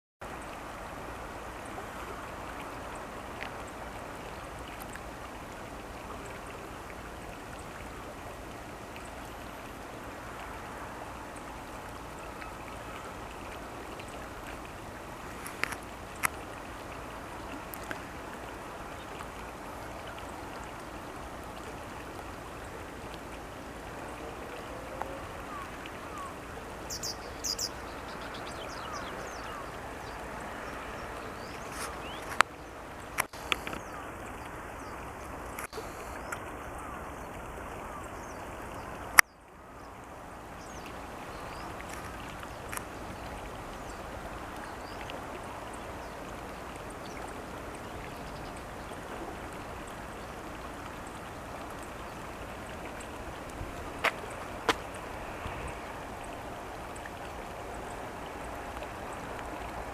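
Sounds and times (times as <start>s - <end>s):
river water rushing: 0.2s - 59.9s.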